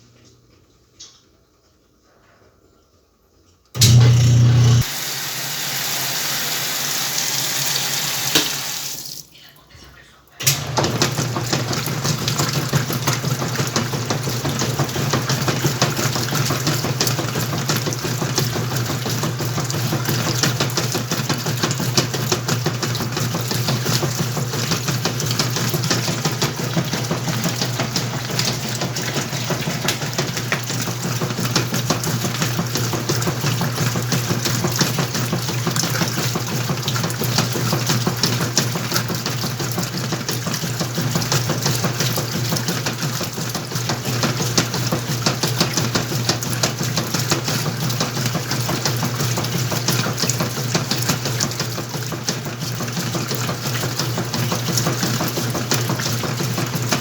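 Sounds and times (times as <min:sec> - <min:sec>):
washing machine motor hum: 0:03.7 - 0:57.0
water sloshing in drum: 0:10.4 - 0:57.0.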